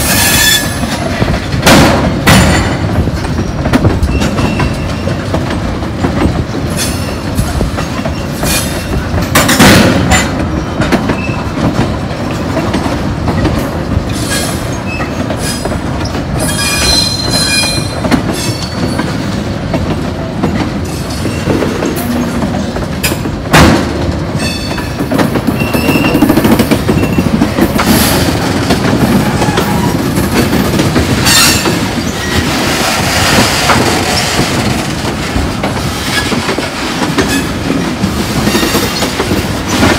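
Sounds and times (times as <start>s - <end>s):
train wheels rumbling and clicking: 0.0s - 39.9s.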